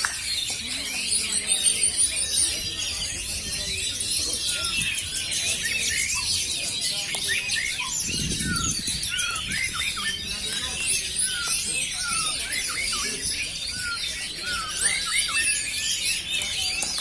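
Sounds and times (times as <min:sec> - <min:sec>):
chorus of songbirds: 0:00.0 - 0:17.0.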